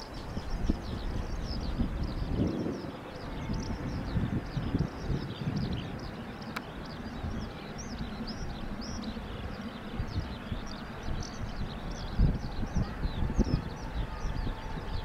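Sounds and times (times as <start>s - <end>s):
small birds chirping: 0.0s - 15.0s
wind rumble on microphone: 0.0s - 15.0s.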